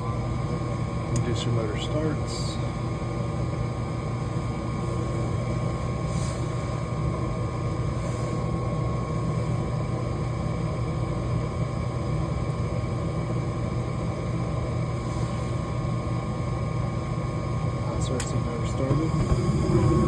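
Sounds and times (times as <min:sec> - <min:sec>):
furnace inducer motor humming: 0:00.0 - 0:20.0.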